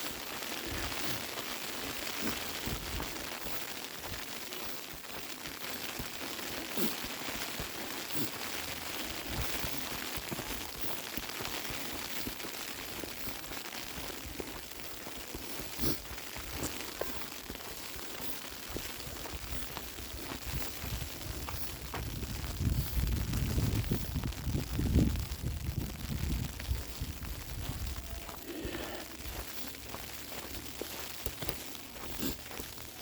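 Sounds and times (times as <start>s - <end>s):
small ticks of snow: 0.0s - 33.0s
snow falling with hiss: 0.0s - 33.0s.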